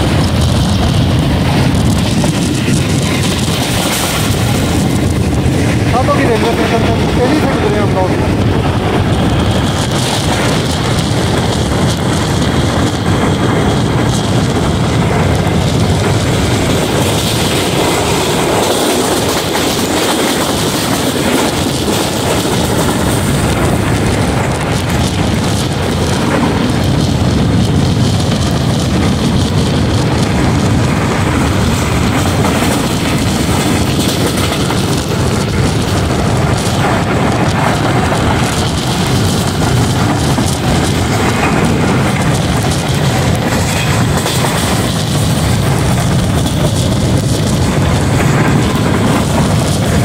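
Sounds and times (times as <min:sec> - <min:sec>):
train wheels rushing on rails: 0:00.0 - 0:50.0.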